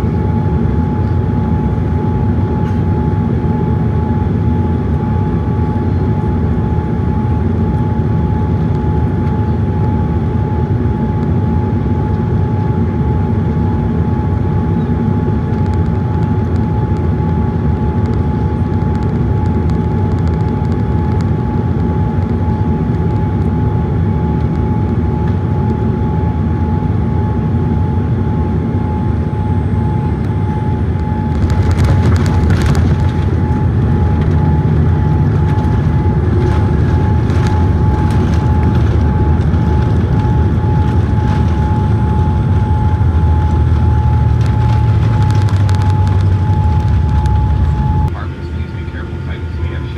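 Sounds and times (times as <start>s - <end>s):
airplane cabin rumble: 0.0s - 49.9s
thin steady whine: 0.0s - 49.9s.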